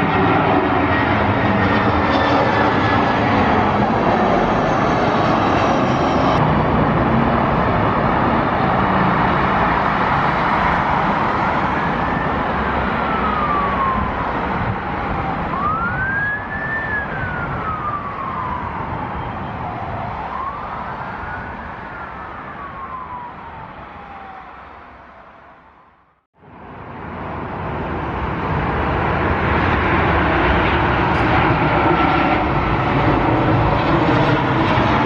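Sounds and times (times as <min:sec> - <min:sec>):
wailing emergency siren: 0:00.0 - 0:26.2, 0:29.6 - 0:35.0
jet aircraft noise: 0:00.0 - 0:35.0.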